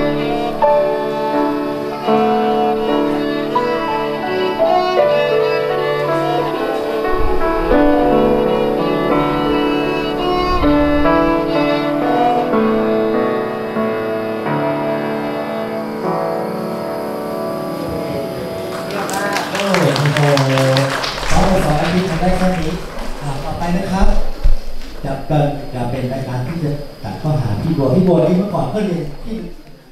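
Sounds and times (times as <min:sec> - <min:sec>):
cello playing: 0:00.0 - 0:27.0
violin playing: 0:00.0 - 0:27.0
piano accompaniment: 0:00.0 - 0:29.4.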